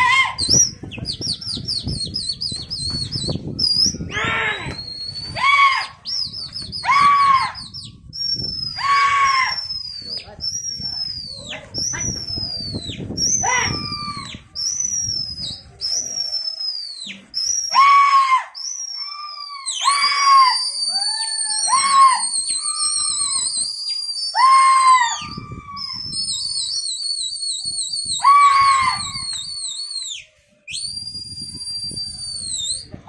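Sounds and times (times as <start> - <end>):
piercing high whistles: 0.4 - 33.0.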